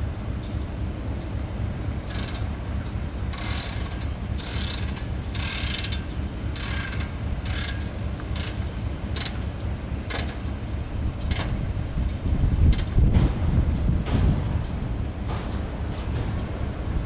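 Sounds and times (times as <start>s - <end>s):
locomotive engine running low: 0.0s - 17.0s.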